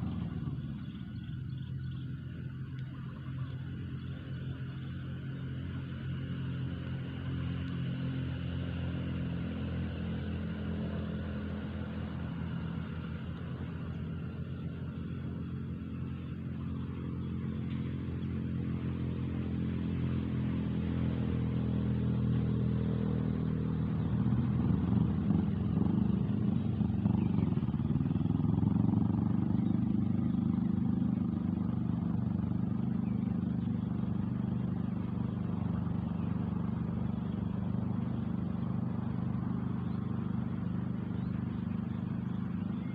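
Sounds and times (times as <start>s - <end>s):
motor engine running: 0.0s - 42.9s.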